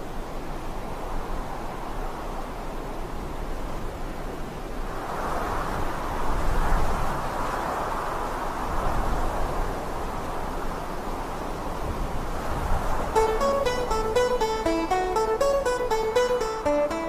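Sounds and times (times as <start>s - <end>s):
vehicle road and engine noise: 0.1s - 14.1s.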